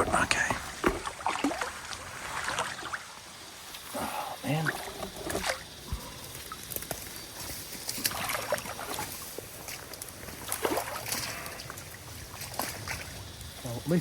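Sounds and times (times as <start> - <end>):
person wading through water: 0.0 - 13.6.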